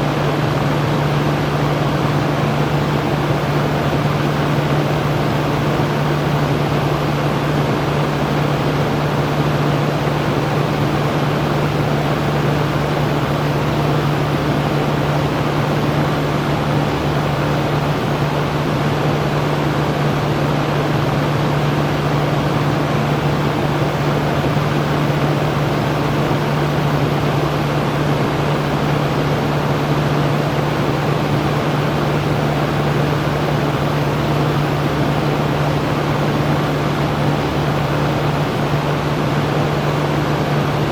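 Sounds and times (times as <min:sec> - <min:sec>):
electric fan rushing air: 0:00.0 - 0:40.9.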